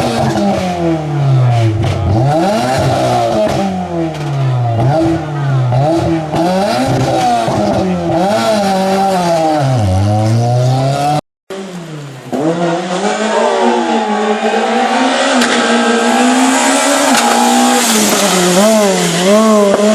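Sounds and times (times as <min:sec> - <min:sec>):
rally car engine revving hard: 0:00.0 - 0:19.9.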